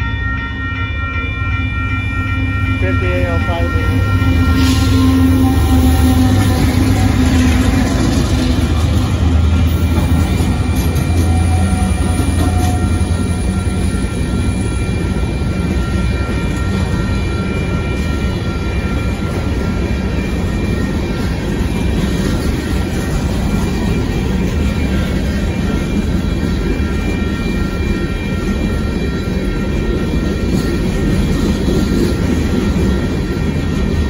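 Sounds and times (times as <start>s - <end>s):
crossing bell ringing: 0.0s - 34.0s
diesel locomotive engine hum: 0.0s - 34.0s
train wheels on rails: 2.2s - 34.0s.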